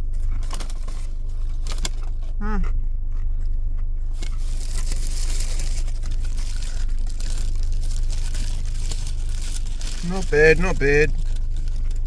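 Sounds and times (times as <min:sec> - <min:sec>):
paper bag crinkling: 0:00.0 - 0:02.3, 0:04.1 - 0:12.0
crispy food being eaten: 0:00.0 - 0:12.0
steady low hum: 0:00.0 - 0:12.0.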